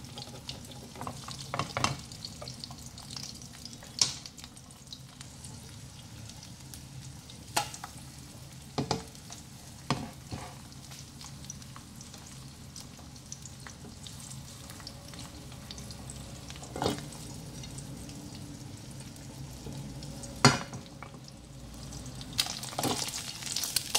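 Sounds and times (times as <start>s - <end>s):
egg sizzling in oil: 0.0s - 23.9s.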